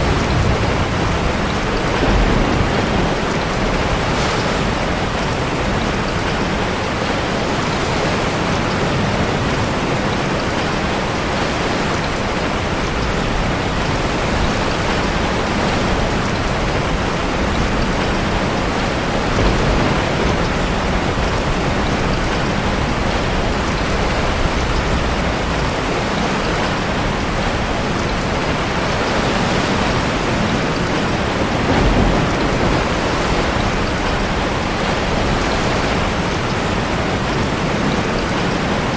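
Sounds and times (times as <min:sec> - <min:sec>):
heavy rain: 0:00.0 - 0:38.9
ocean waves surging in a cave: 0:00.0 - 0:38.9.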